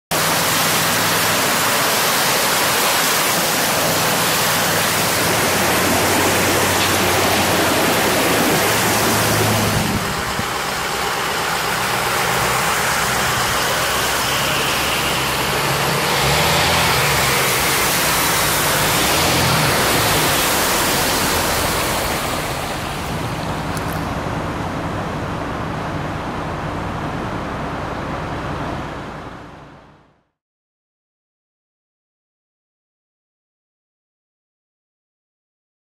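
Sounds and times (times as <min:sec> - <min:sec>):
river water rushing: 0:00.1 - 0:29.5
vehicles driving through water: 0:00.1 - 0:30.1.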